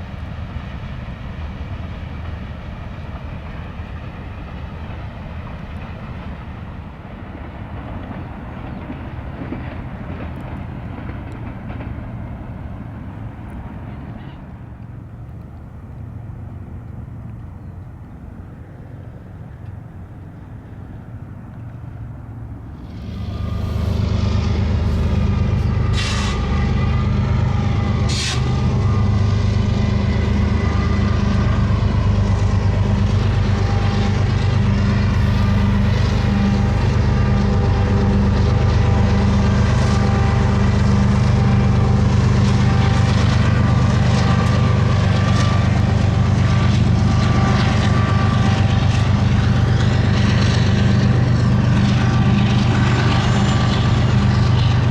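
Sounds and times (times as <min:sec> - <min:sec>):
diesel locomotives running past: 0:00.0 - 0:54.9.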